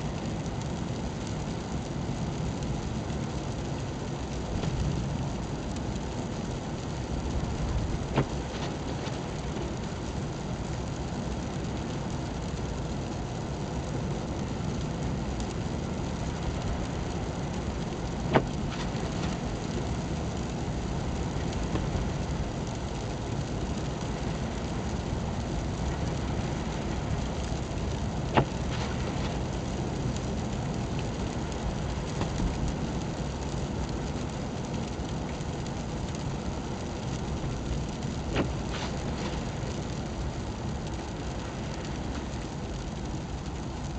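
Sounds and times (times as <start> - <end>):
car road and engine noise: 0.0 - 43.9.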